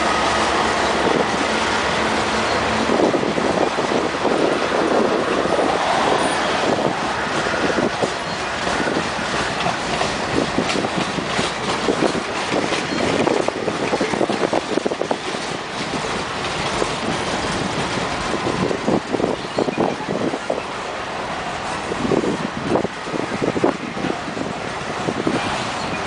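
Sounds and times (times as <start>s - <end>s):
freight cars rolling past: 0.0s - 26.0s
steel wheels clattering on rails: 0.0s - 26.0s.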